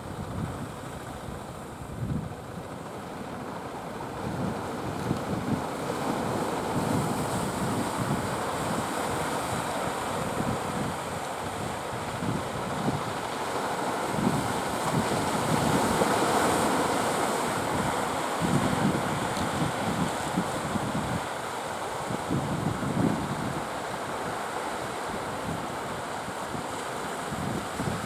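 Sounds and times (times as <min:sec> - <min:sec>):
wind rumbling on microphone: 0:00.0 - 0:24.4, 0:25.1 - 0:28.0
ocean surf washing: 0:02.7 - 0:28.0.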